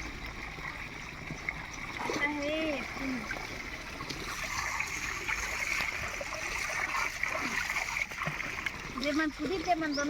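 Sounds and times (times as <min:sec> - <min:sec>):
water splashing and trickling: 0:00.0 - 0:10.0.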